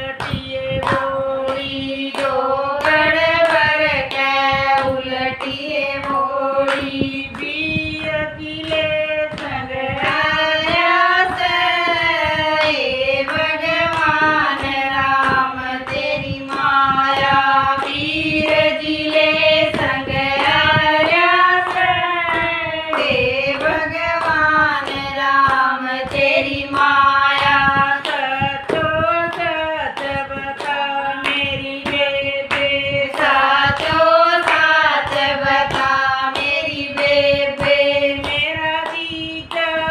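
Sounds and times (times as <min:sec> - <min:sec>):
hand claps: 0:00.0 - 0:39.9
women singing folk song: 0:00.0 - 0:39.9.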